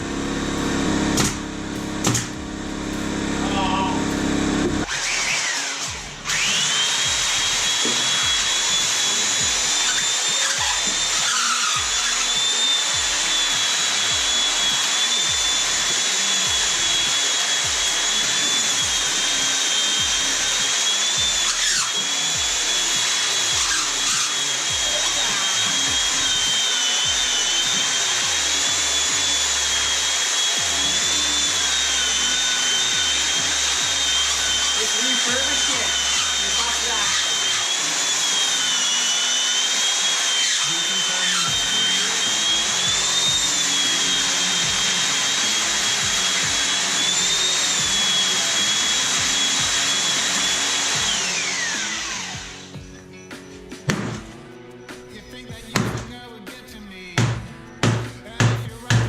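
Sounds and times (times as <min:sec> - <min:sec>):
power tool motor whining: 0:00.0 - 0:54.3.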